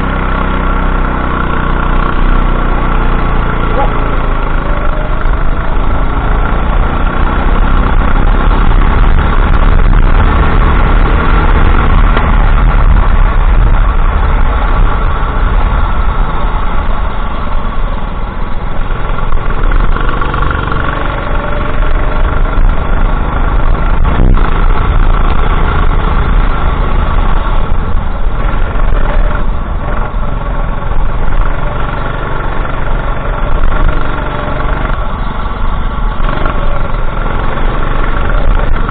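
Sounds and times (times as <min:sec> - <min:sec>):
go-kart engine running: 0:00.0 - 0:38.9
heavy low rumble: 0:00.0 - 0:38.9.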